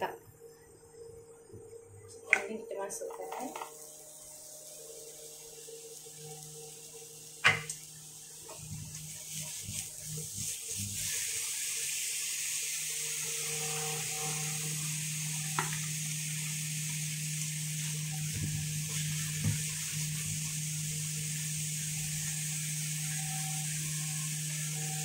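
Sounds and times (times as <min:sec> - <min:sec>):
food sizzling in a wok: 0:03.0 - 0:25.0.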